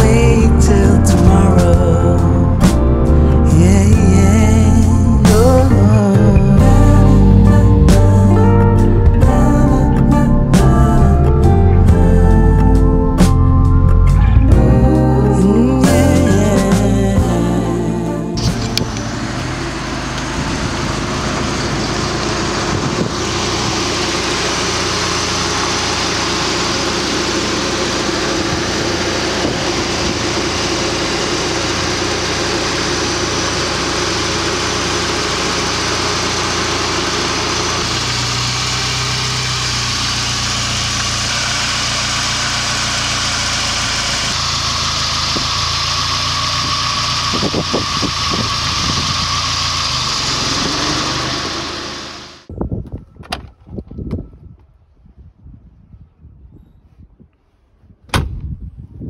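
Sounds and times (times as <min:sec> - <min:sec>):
car engine idling: 0:00.0 - 0:52.5.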